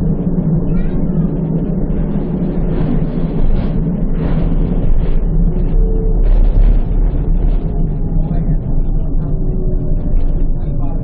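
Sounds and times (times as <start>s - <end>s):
running gear rumble: 0.0s - 11.0s
tram low hum: 0.0s - 11.0s.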